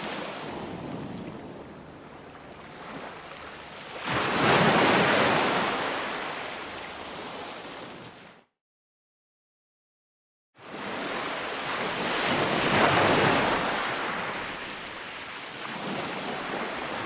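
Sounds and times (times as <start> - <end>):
ocean waves breaking: 0.0 - 8.4, 10.6 - 17.0.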